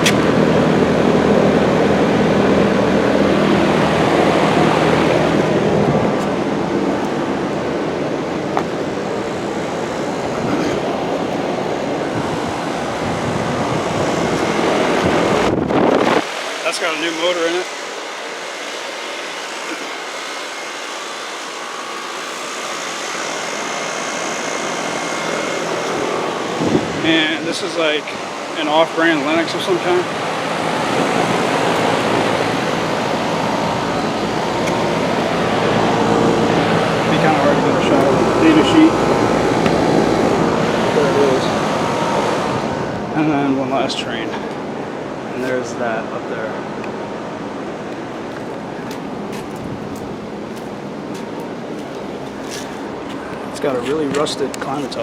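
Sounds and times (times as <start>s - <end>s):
condenser fan air rush: 0.0s - 55.0s
heat pump unit running: 0.0s - 55.0s.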